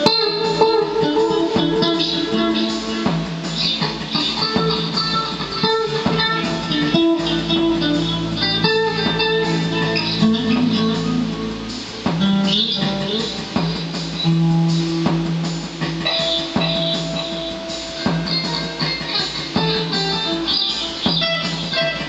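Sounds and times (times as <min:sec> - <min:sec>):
electric guitar with delay: 0:00.0 - 0:22.0.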